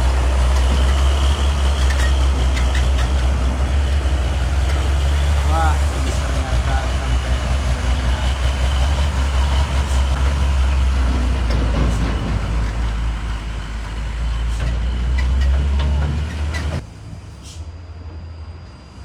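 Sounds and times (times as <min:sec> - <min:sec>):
truck engine rumbling: 0:00.0 - 0:18.5.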